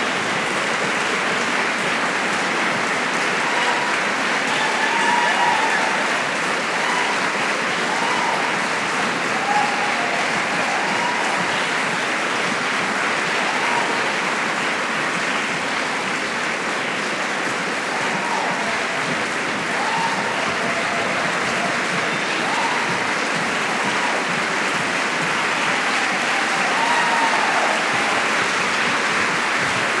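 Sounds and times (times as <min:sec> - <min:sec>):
audience applauding: 0:00.0 - 0:30.0
people cheering: 0:00.0 - 0:30.0.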